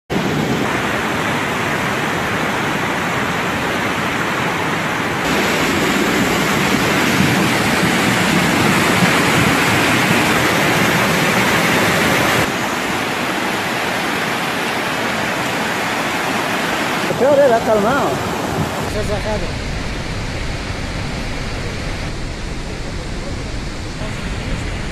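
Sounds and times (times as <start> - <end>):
floodwater rushing: 0.1 - 24.9.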